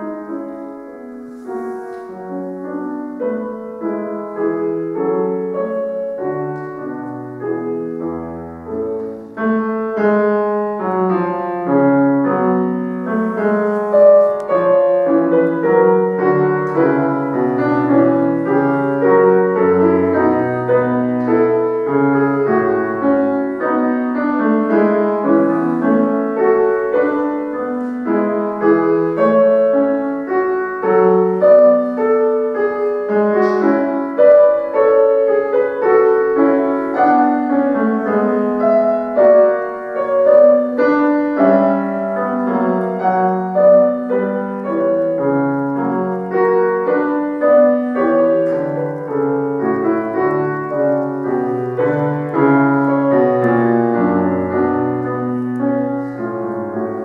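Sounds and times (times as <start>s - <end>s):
solo classical piano: 0.0s - 57.0s.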